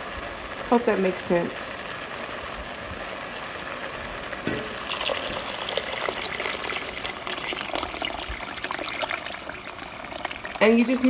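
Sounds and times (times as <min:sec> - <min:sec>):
water pouring into pot: 0:01.8 - 0:11.0.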